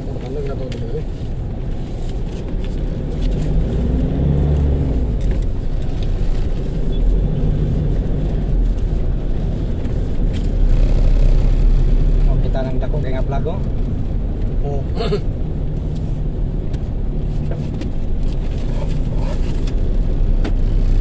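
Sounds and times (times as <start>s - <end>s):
road rumble: 0.0s - 21.0s
vehicle engine: 0.0s - 21.0s.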